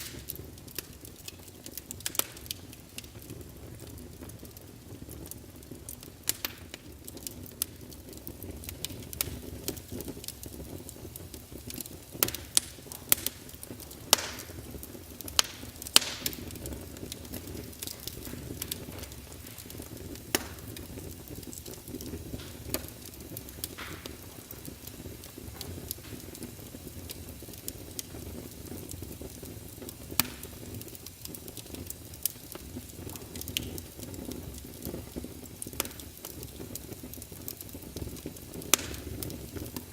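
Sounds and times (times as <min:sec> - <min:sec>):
fire flame rushing: 0:00.0 - 0:39.9
firewood crackling and popping: 0:00.0 - 0:39.9.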